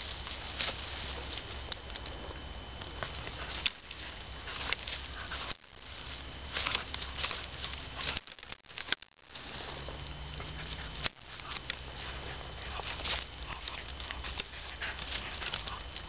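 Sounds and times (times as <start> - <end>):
dog digging and scratching: 0.0 - 16.0.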